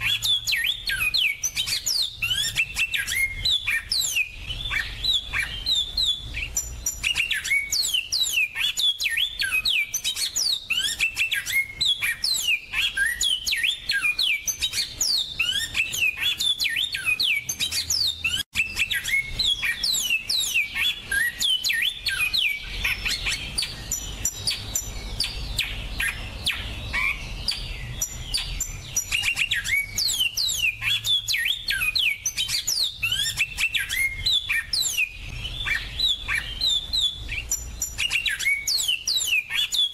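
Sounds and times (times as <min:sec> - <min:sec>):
finches singing: 0:00.0 - 0:39.9.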